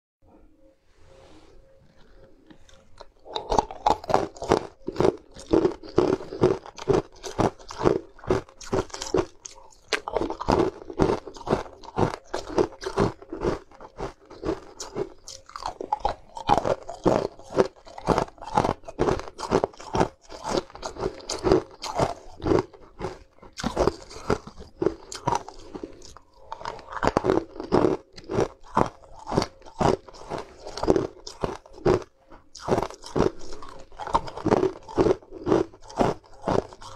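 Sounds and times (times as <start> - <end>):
ice crunched between teeth: 2.6 - 36.9.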